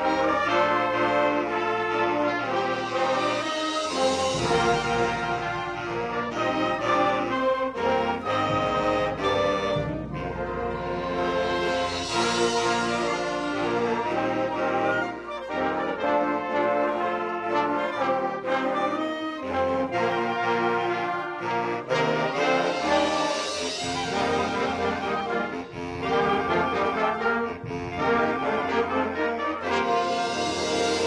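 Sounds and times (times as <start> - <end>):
brass sustained chords: 0.0 - 31.0
concert band playing: 0.0 - 31.0.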